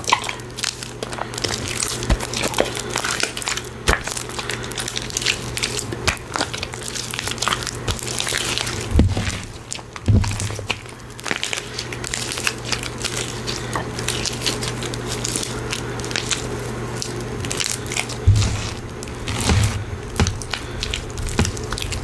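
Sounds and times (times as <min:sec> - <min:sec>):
slime squished by hand: 0:00.0 - 0:22.0.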